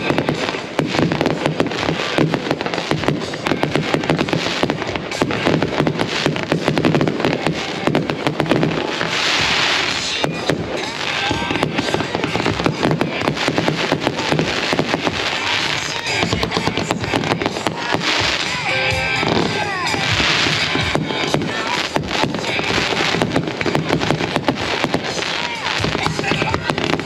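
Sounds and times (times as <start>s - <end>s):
fireworks barrage with crackling: 0.0s - 27.0s
fireworks hissing: 0.0s - 27.0s.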